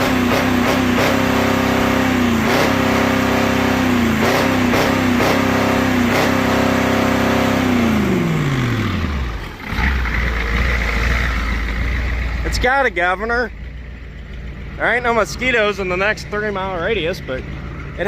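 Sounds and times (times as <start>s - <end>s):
diesel engine running at high revs: 0.0s - 18.0s.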